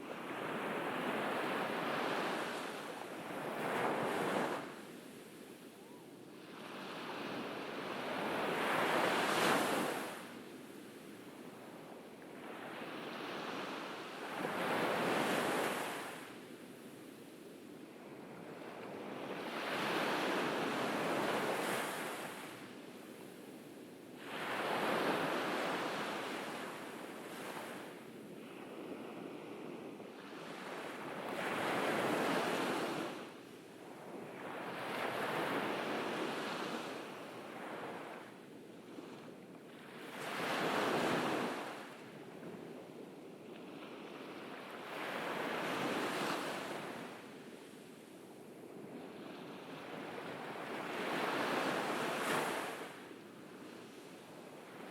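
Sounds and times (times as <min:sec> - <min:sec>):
ocean waves breaking on beach: 0:00.0 - 0:10.4, 0:18.0 - 0:54.9.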